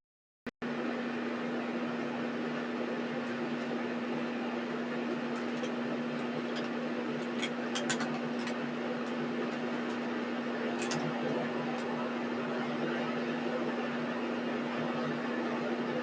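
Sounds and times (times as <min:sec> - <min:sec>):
steady mechanical hum: 0:00.6 - 0:16.0.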